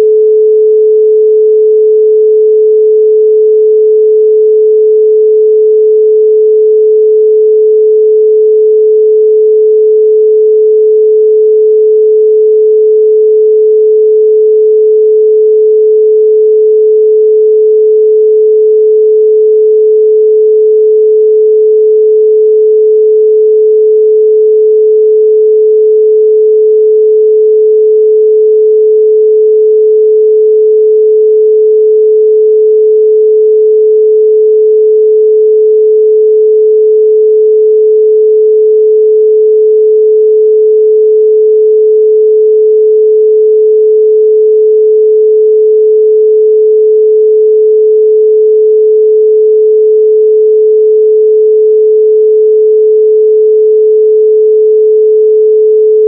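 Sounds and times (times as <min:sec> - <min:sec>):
continuous sine tone: 0:00.0 - 0:49.7, 0:55.2 - 0:56.0.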